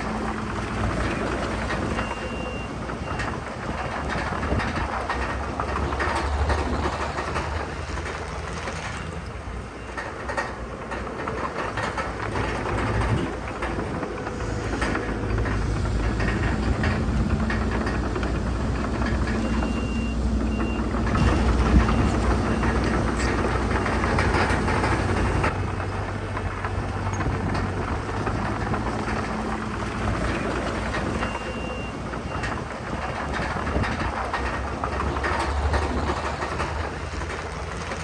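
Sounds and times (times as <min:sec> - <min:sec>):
bulldozer diesel engine: 0:00.0 - 0:38.0
crawler tracks clanking: 0:00.0 - 0:38.0.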